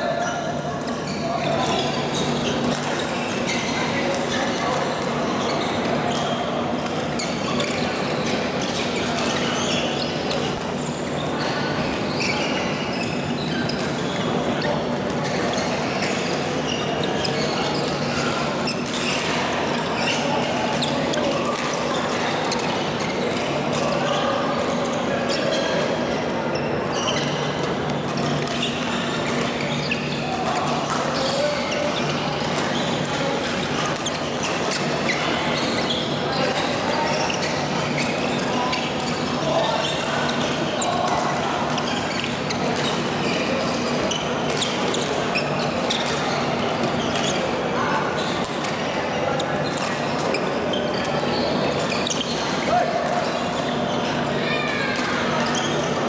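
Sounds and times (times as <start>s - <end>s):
many voices: 0.0s - 56.0s
shoe squeaks: 0.0s - 56.0s.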